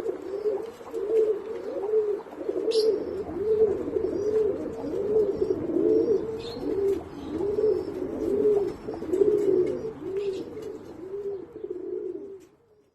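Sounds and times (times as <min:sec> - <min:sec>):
pigeons cooing: 0:00.0 - 0:12.9.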